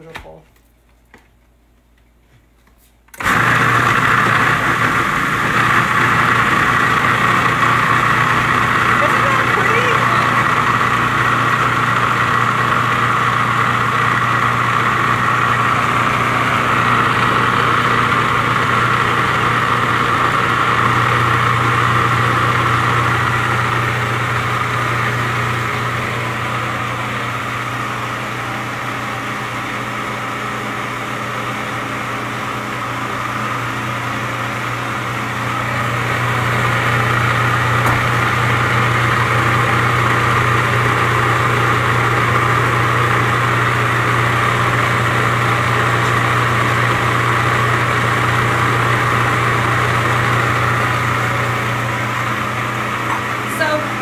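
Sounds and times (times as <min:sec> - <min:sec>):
food processor motor running: 0:03.2 - 0:54.0.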